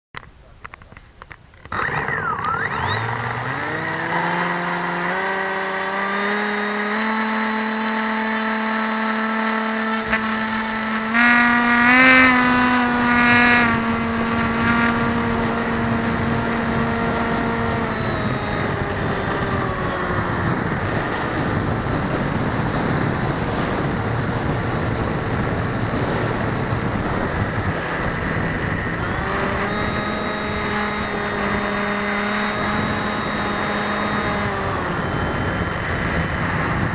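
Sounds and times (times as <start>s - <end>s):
electric motor propeller whine: 0.7s - 36.9s
wind noise on microphone: 1.7s - 36.9s.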